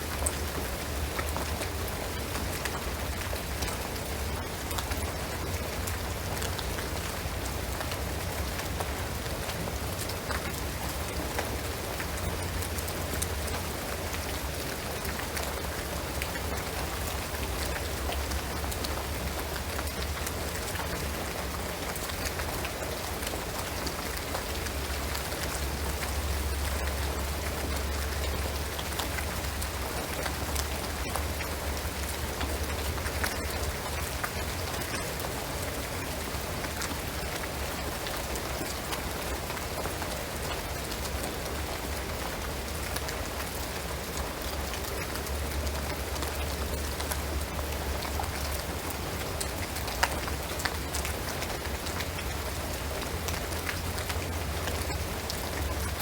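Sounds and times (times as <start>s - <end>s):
rain on a shingled roof: 0.0s - 56.0s.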